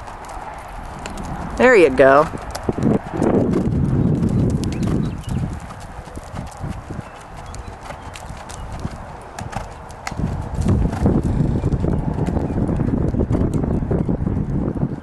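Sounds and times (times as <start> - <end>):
horse hoofbeats on arena ground: 0.0 - 15.0.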